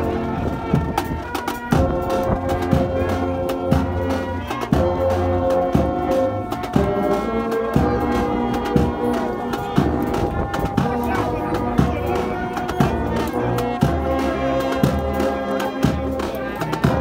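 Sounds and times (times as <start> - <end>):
brass band playing chords: 0.0 - 17.0
drum beating time: 0.0 - 17.0.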